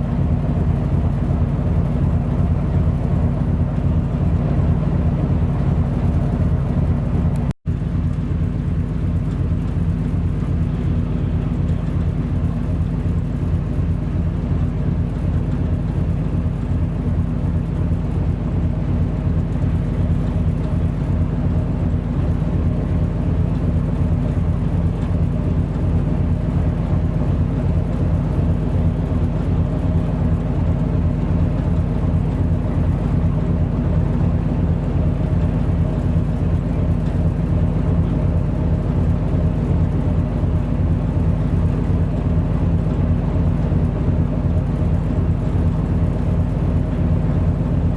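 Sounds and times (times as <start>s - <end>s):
ship diesel engine droning: 0.0s - 47.9s.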